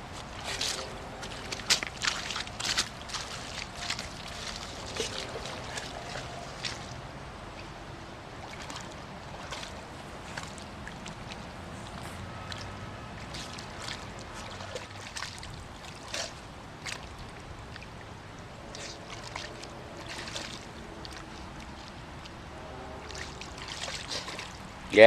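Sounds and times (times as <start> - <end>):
shallow water trickling: 0.0 - 25.0
soft water splashes: 0.0 - 25.0.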